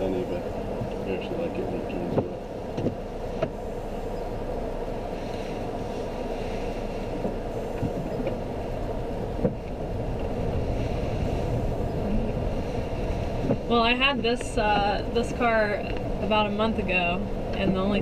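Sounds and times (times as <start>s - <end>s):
engine and tyres droning: 0.0s - 18.0s.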